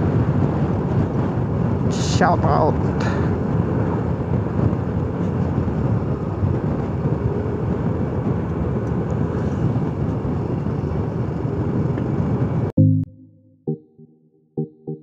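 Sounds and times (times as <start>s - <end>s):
road noise: 0.0s - 12.7s
wind rushing on microphone: 0.0s - 12.7s.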